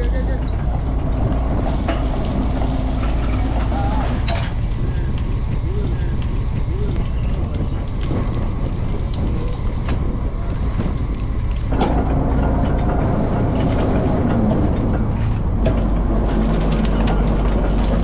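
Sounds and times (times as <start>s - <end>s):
boat engine and winch running: 0.0s - 18.0s
light clatter: 0.0s - 18.0s.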